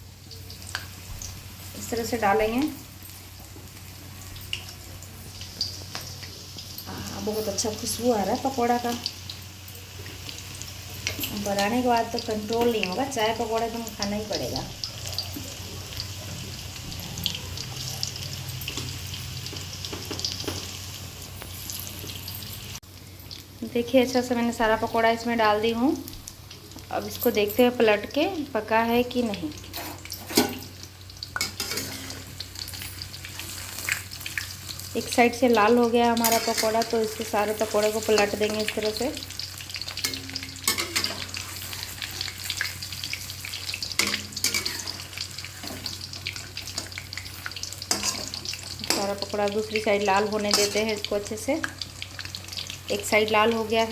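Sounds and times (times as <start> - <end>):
oil sizzling with crackles: 0.0 - 53.9.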